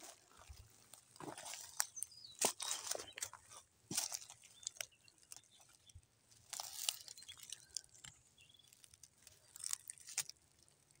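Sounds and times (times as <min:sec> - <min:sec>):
dry leaves crackling and rustling: 0:00.0 - 0:11.0
twigs snapping: 0:00.9 - 0:11.0.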